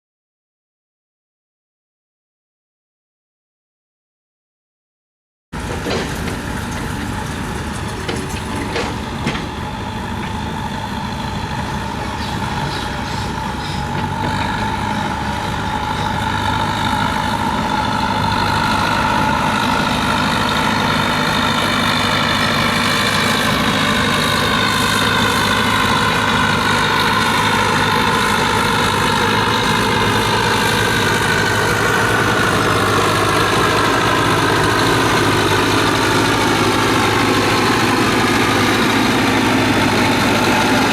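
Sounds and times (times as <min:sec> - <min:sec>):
heavy machinery diesel engine: 0:05.6 - 0:40.9.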